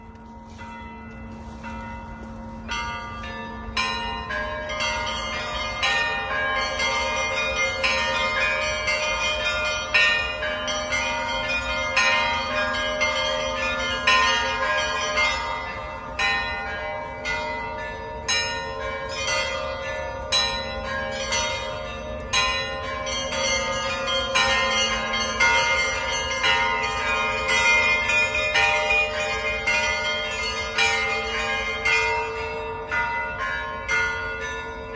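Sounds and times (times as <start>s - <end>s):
large bells ringing hum: 0.0s - 34.9s
small church bells striking: 0.0s - 34.9s.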